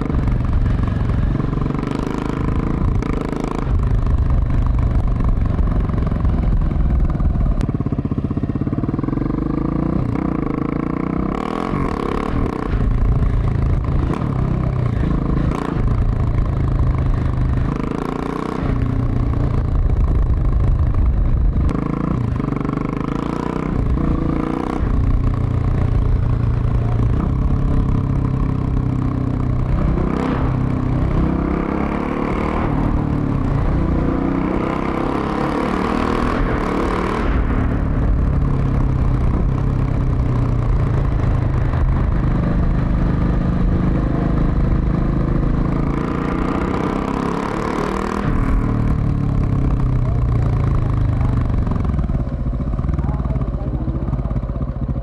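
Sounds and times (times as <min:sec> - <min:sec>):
motorcycle engine accelerating: 0:00.0 - 0:55.0
wind and road rush: 0:00.0 - 0:55.0.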